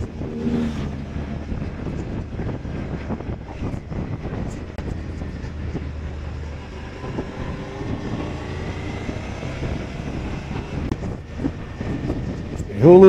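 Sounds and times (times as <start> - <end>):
motorcycle engine running: 0.0 - 12.6
wind and road noise: 0.0 - 13.0.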